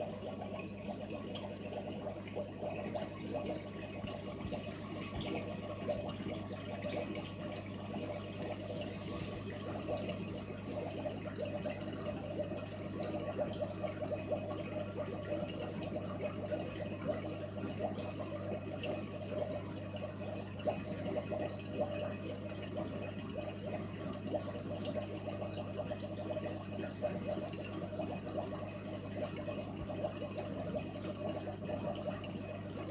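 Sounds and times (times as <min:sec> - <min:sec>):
filter low hum: 0:00.0 - 0:32.9
water bubbling and trickling: 0:00.0 - 0:32.9.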